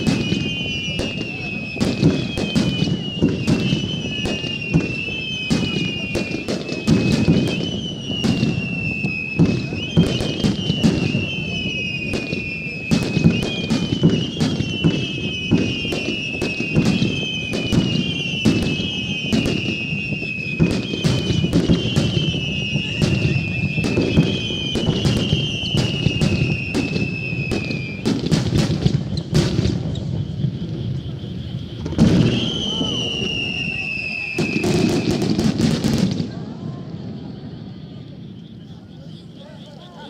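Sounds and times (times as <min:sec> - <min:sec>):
high whistling tones sliding down: 0:00.0 - 0:28.1, 0:28.7 - 0:35.6
firework bangs and crackling: 0:00.0 - 0:40.0.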